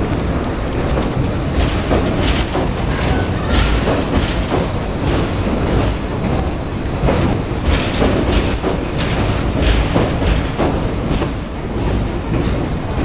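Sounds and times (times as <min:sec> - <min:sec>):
train rumbling over bridge: 0:00.0 - 0:13.0
train wheels clacking: 0:00.0 - 0:13.0.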